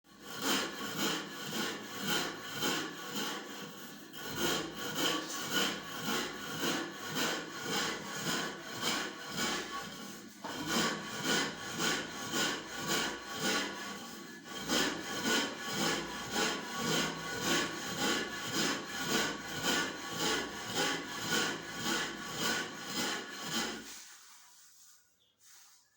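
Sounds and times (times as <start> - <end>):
stone hand mill scraping: 0.1 - 25.9.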